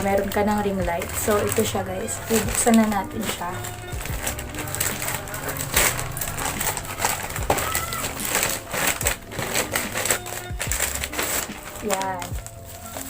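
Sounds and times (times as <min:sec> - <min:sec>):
packaging crinkling and ripping: 0:00.0 - 0:13.0.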